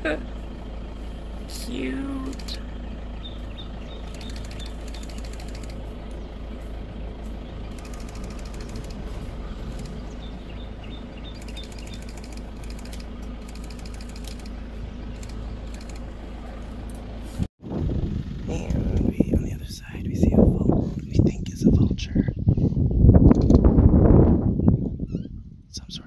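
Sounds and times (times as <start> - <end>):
vehicle engine idling: 0.0 - 25.8.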